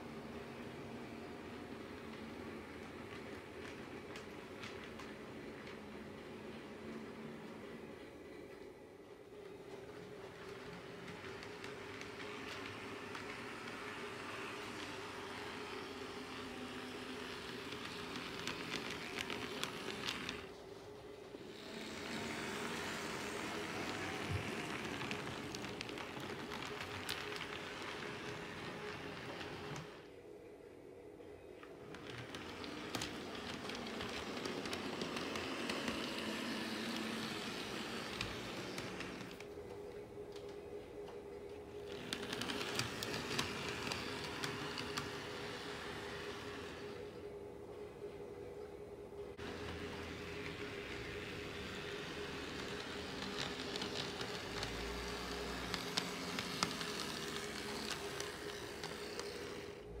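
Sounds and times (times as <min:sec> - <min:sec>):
model train wheels clicking on rails: 0:00.0 - 0:07.6, 0:09.4 - 0:20.6, 0:21.4 - 0:30.1, 0:31.8 - 0:39.5, 0:41.8 - 0:47.1, 0:49.4 - 1:00.0.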